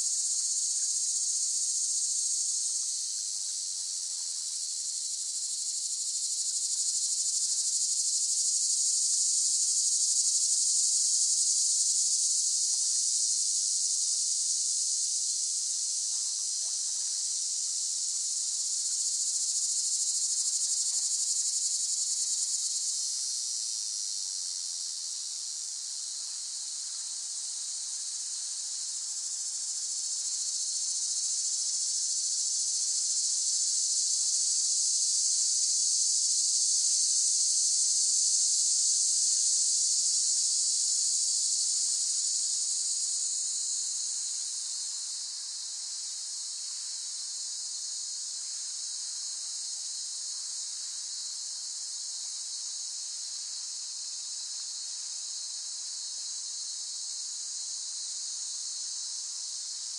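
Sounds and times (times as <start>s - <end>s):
cicadas buzzing: 0.0s - 3.3s, 4.6s - 59.9s.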